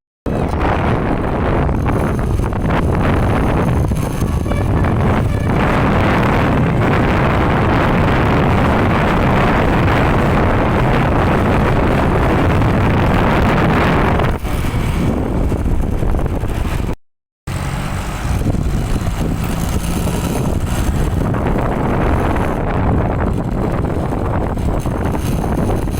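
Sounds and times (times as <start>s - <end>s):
road vehicle noise: 0.3s - 25.9s
wind rushing over microphone: 0.3s - 25.9s.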